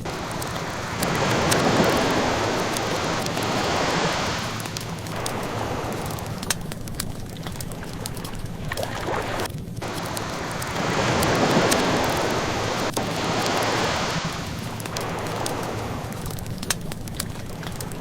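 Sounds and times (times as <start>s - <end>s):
ocean waves washing in: 0.0s - 18.0s
wood fire crackling and popping: 0.0s - 18.0s.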